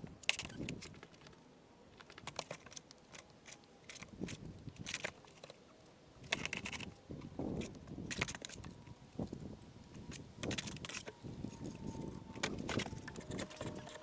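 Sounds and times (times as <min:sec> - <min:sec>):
stones and tools clicking: 0:00.2 - 0:05.6, 0:06.2 - 0:14.0.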